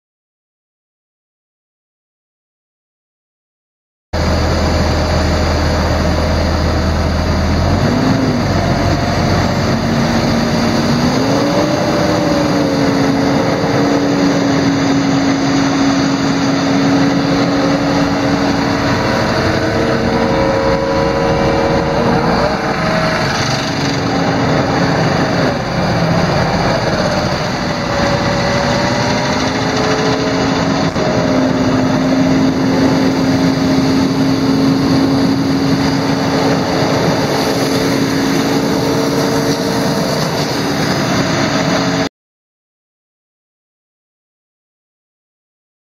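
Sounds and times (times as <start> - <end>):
truck engine and blower droning: 4.2 - 42.1.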